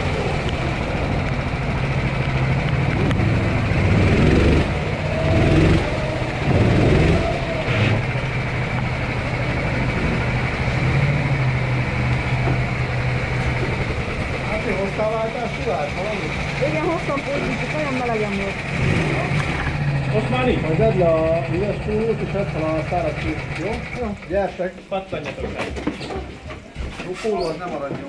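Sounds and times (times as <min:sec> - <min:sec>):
kart engine running: 0:00.0 - 0:26.8.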